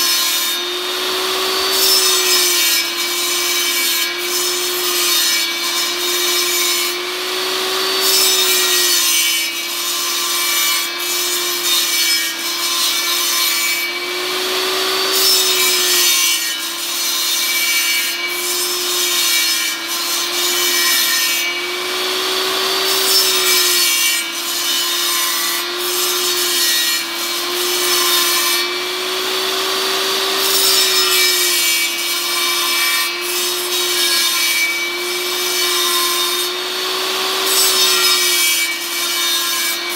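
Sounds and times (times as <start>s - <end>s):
saw motor whine: 0.0s - 39.9s
table saw cutting wood: 0.0s - 39.9s.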